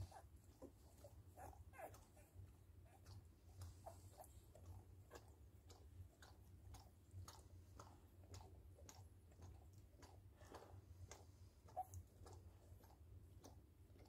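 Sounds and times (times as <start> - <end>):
low steady hum: 0.0 - 14.0
dog licking wet smacking: 0.5 - 14.0.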